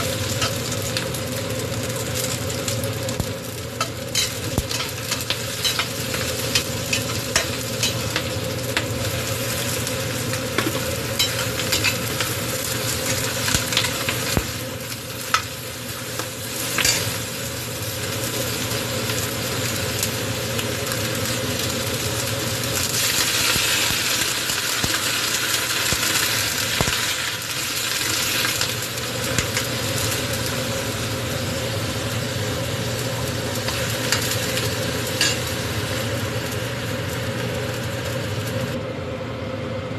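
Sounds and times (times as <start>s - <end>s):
food sizzling in oil: 0.0s - 38.8s.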